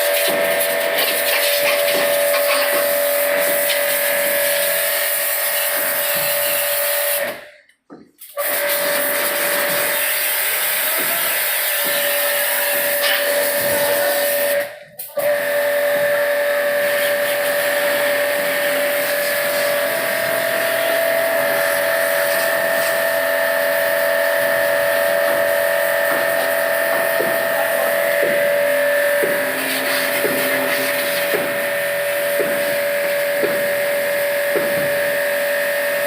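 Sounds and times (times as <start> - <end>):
pressure washer running: 0.0 - 36.0.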